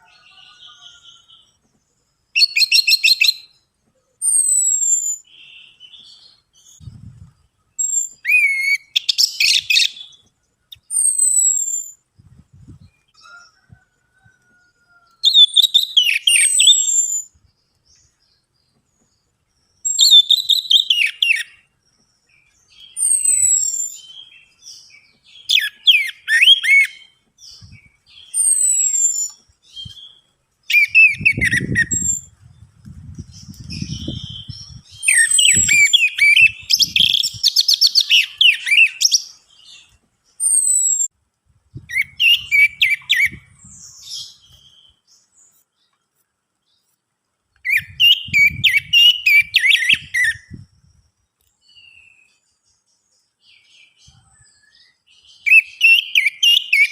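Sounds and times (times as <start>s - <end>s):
thrush singing whistled notes: 2.3s - 13.7s, 15.2s - 18.2s, 19.8s - 21.7s, 22.4s - 32.5s, 33.1s - 41.1s, 41.8s - 45.1s, 47.6s - 52.4s, 53.5s - 56.9s.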